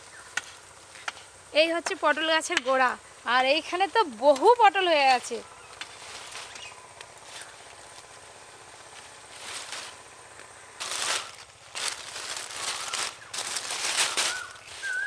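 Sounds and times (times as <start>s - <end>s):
leaves rustling and crackling: 0.0s - 15.0s.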